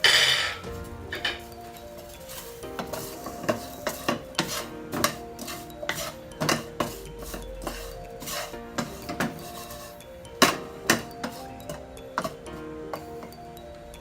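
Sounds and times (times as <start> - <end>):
utensil clinking and scraping pan: 0.0 - 13.4
utensil stirring in frying pan: 0.0 - 14.0.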